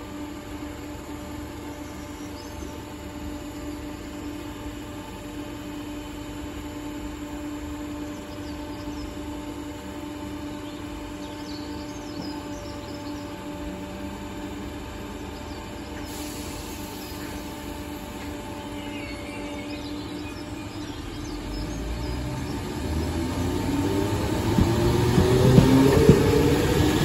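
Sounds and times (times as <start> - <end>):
train equipment humming: 0.0 - 27.0.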